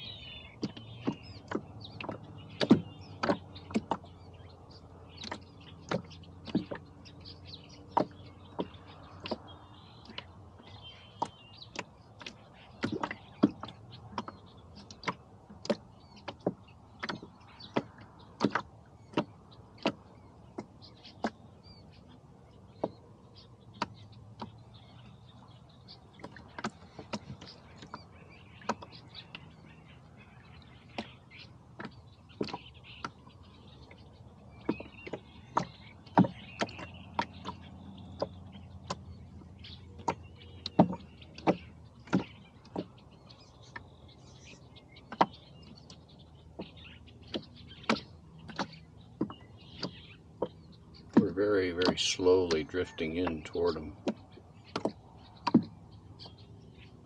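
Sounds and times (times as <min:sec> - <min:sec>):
boat and oars knocking: 0:00.0 - 0:57.0.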